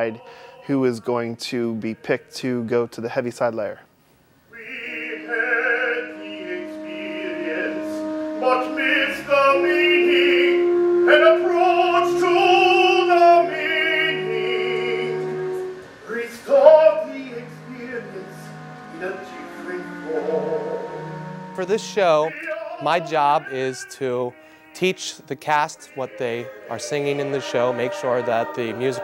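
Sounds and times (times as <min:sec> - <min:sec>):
person singing with vibrato: 0:00.0 - 0:02.7, 0:04.5 - 0:29.0
sustained backing tones: 0:04.5 - 0:29.0.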